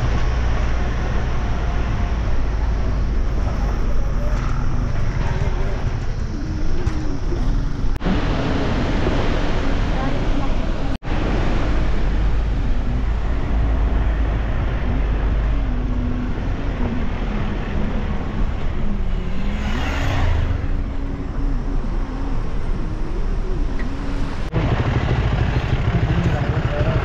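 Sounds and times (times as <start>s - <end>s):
car engine and road rumble: 0.0s - 27.0s
rush of noise: 0.0s - 27.0s.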